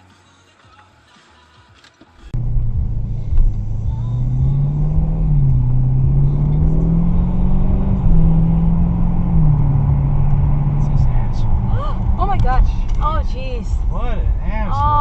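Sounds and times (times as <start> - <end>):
low road rumble: 2.2 - 15.0
car engine running loudly: 2.4 - 15.0.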